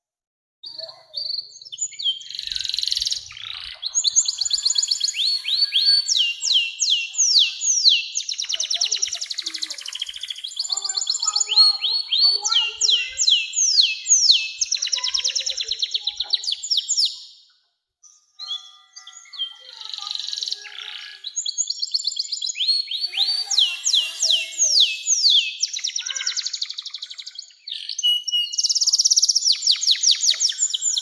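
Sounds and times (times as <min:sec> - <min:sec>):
canary singing trills: 0:00.6 - 0:31.0.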